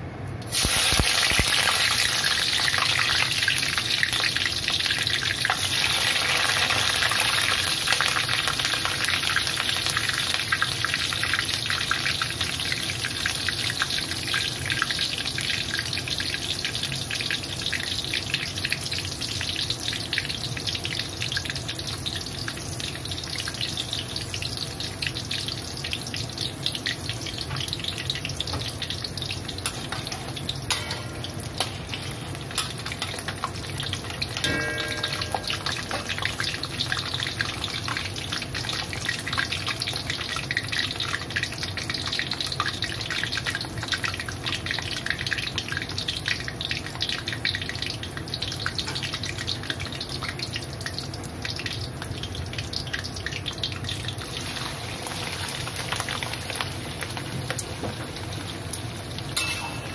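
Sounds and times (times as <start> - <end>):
garlic and chillies sizzling in oil: 0.5 - 59.9.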